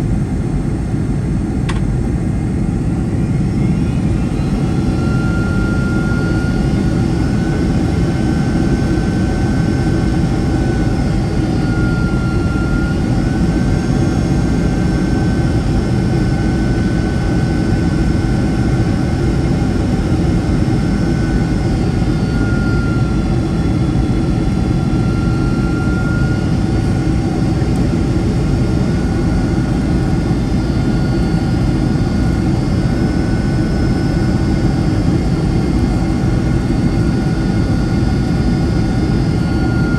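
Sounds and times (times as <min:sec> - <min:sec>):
jet engine and airflow rumble: 0:00.0 - 0:39.9
thin engine whine: 0:00.2 - 0:39.9.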